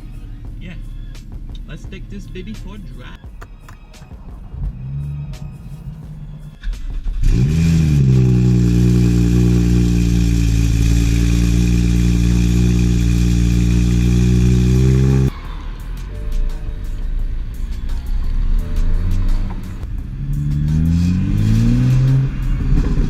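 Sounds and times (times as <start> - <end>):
car engine starting and idling: 0.0 - 23.0.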